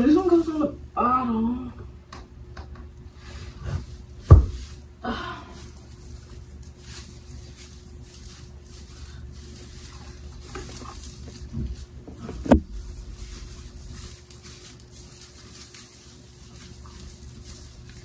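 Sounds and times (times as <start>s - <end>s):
artificial tree rustling: 3.2s - 18.0s.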